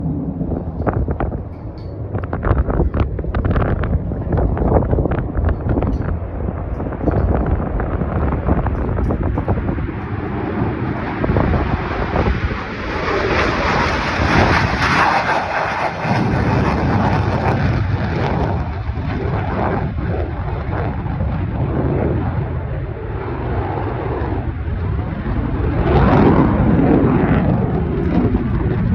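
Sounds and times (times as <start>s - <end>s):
jet engine roaring: 0.0s - 28.9s.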